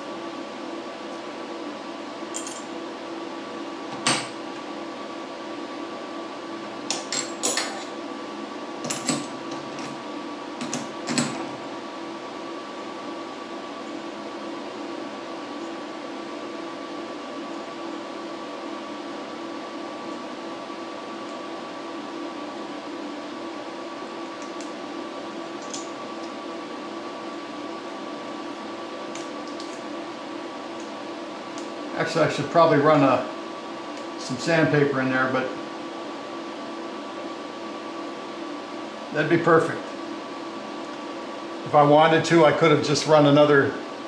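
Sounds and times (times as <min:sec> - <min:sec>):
shop machine hum: 0:00.0 - 0:44.0.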